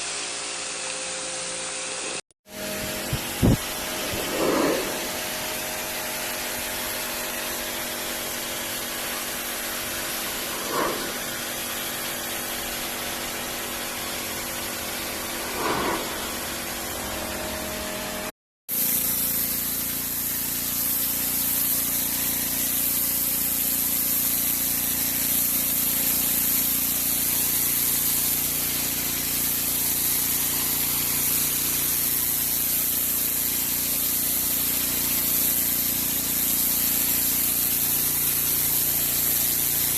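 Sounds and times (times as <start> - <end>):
pressure washer pump hum: 2.5 - 39.9
pressure washer water jet hissing: 2.5 - 39.9.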